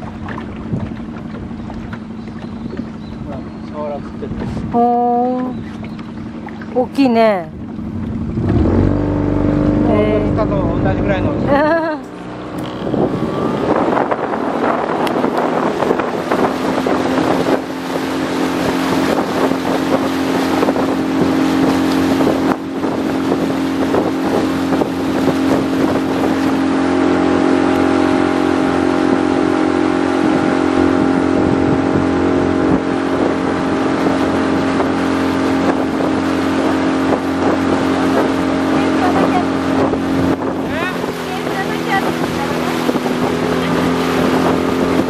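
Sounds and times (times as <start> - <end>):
boat motor humming: 0.0 - 45.0
wind and water rushing: 0.0 - 45.0.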